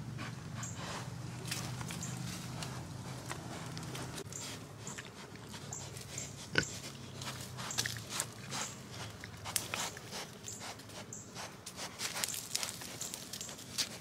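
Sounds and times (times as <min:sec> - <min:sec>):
pigs snuffling and grunting: 0:00.0 - 0:14.0.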